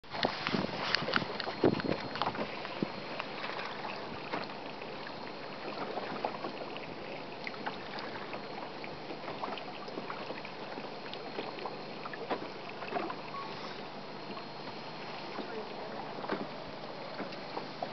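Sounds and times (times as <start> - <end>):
water lapping against boat hull: 0.0 - 17.9.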